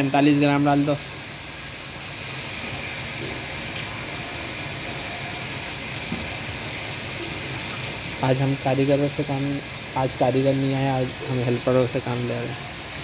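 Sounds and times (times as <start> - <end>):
steady hissing: 0.0 - 13.0.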